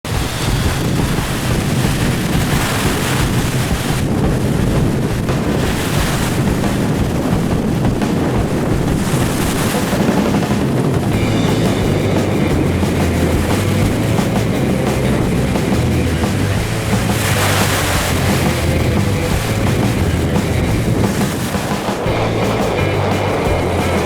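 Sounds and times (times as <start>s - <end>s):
lake waves: 0.0s - 24.0s
wind buffeting microphone: 0.0s - 24.0s.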